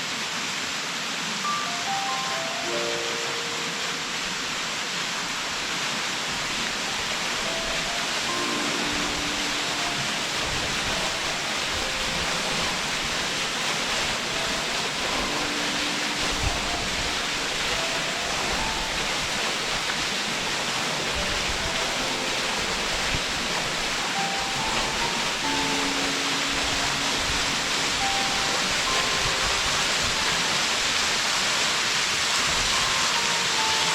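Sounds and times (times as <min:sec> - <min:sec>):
waterfall rushing: 0:00.0 - 0:33.9
faint held music notes: 0:01.4 - 0:04.8, 0:06.7 - 0:33.9.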